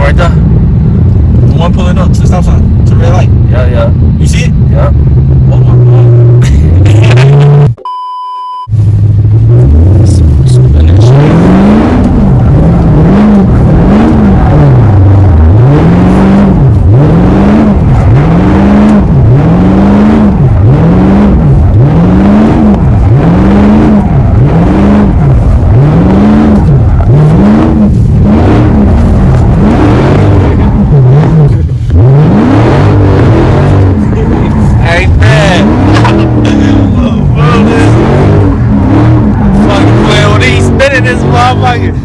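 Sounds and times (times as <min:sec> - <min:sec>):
car engine revving: 0:00.0 - 0:07.8, 0:08.7 - 0:42.0.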